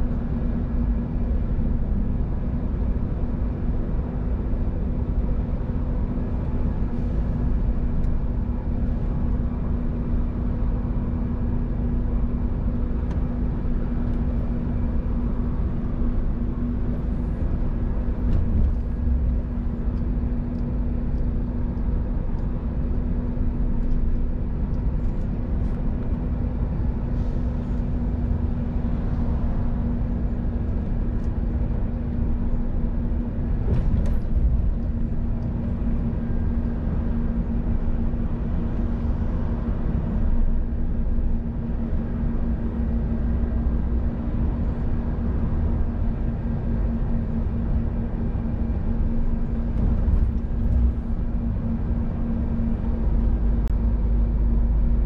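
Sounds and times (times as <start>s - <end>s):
truck engine and tyres droning: 0.0s - 55.0s.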